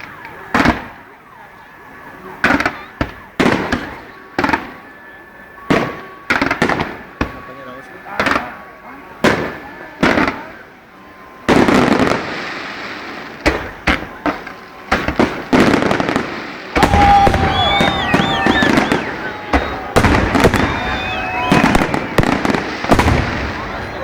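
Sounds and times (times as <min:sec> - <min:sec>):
shrill whistling fireworks: 0:00.0 - 0:24.0.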